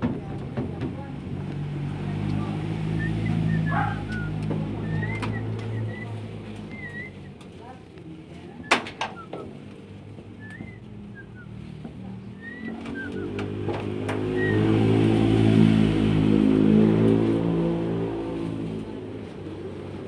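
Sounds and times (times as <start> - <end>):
vehicle engine passing: 0.3 - 7.4, 9.8 - 20.0.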